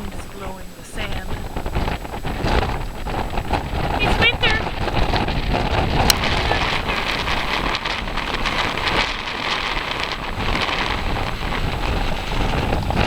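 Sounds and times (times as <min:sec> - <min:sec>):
ocean surf washing up beach: 0:00.0 - 0:13.0
wind buffeting microphone: 0:00.0 - 0:13.0.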